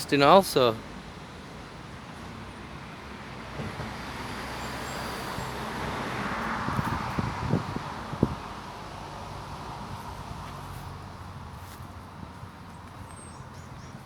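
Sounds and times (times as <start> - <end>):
vehicle passing: 2.3 - 14.0.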